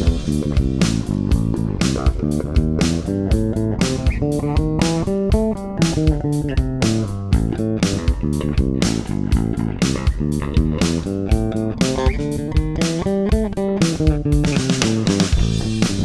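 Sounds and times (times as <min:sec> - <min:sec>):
electric guitar single-note melody: 0:00.0 - 0:15.0.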